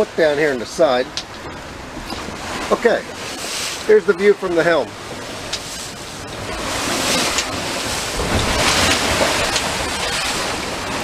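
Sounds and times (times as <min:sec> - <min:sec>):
waves rushing along hull: 0:00.0 - 0:11.0
wind buffeting microphone: 0:01.0 - 0:11.0.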